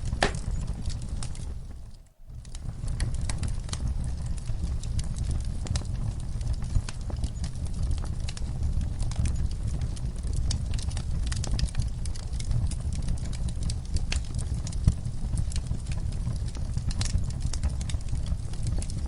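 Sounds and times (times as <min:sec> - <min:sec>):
fire popping: 0:00.0 - 0:19.0
flames rumbling: 0:00.0 - 0:19.0
wood fire crackling: 0:00.0 - 0:19.0.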